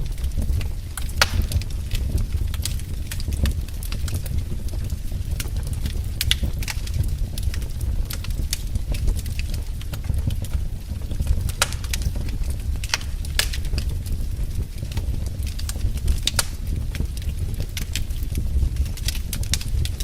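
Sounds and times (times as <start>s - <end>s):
fire crackling and popping: 0.0s - 20.0s
low fire rumble: 0.0s - 20.0s.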